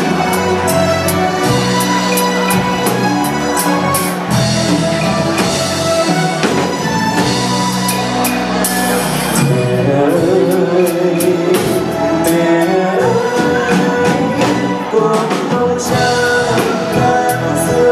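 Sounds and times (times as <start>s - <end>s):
live band playing slow ballad: 0.0s - 17.9s.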